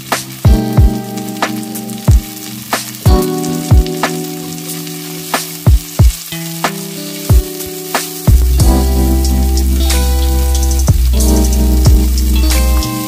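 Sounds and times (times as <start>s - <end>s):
background music with bass beat: 0.0s - 4.3s, 5.4s - 6.2s, 7.3s - 13.0s
vegetables sizzling in a wok: 0.0s - 13.0s.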